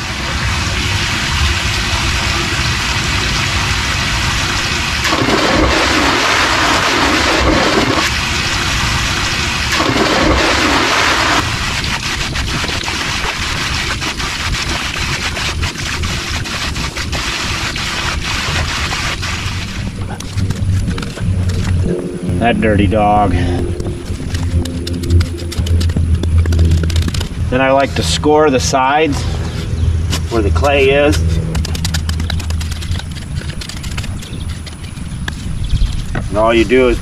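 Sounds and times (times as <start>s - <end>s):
water spraying: 0.0s - 34.9s.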